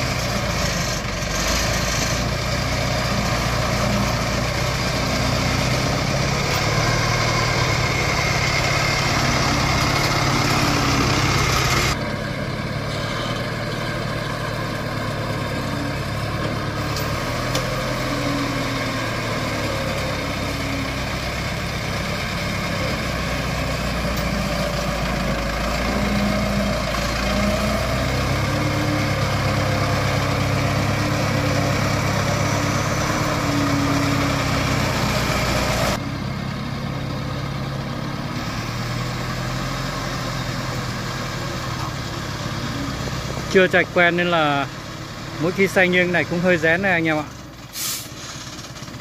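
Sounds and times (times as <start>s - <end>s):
truck engine running: 0.0s - 49.0s.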